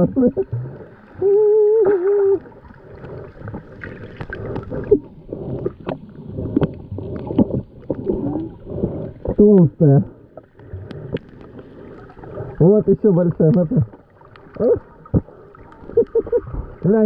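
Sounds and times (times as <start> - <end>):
water sloshing and gurgling: 0.0 - 17.0.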